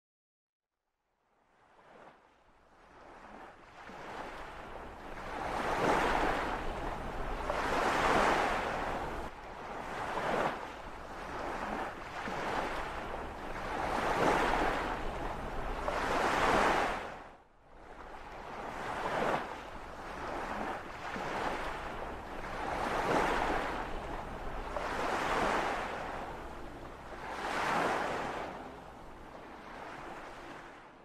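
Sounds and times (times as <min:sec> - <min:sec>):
sea waves washing in: 0:02.8 - 0:31.0.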